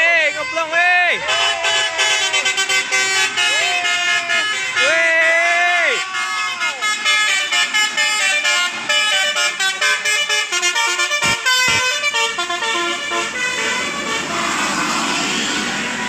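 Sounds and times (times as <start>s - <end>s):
musical bus horn playing a tune: 0.0s - 16.0s
vehicle noise: 0.0s - 16.0s.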